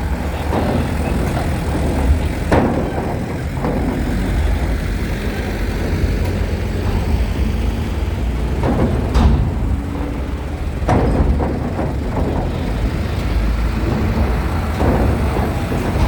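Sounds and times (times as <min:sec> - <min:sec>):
sharp knocks: 0:00.0 - 0:16.0
truck and bus engines rumbling: 0:00.0 - 0:16.0.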